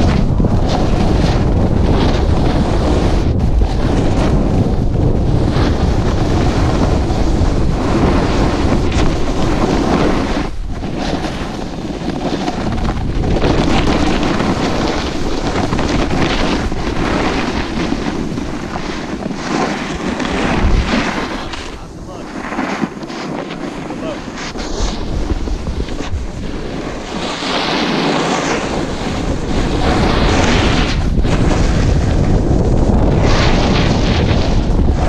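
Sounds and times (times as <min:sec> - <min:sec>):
board sliding on snow: 0:00.0 - 0:35.0
wind buffeting microphone: 0:00.0 - 0:35.0.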